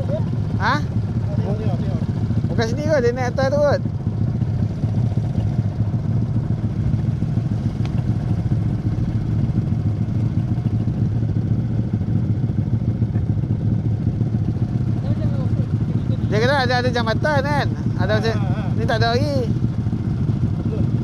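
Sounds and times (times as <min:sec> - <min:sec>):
small motorcycle engine running: 0:00.0 - 0:21.0.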